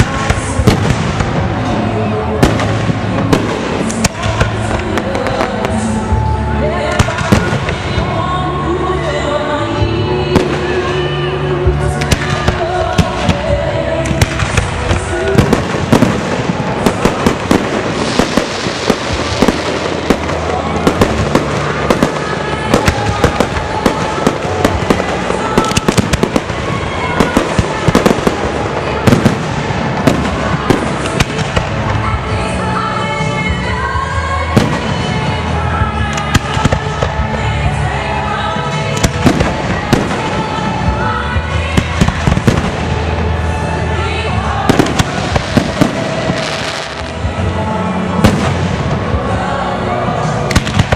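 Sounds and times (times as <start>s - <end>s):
fireworks bursting: 0.0s - 8.4s, 10.2s - 50.9s
music playing: 0.0s - 50.9s.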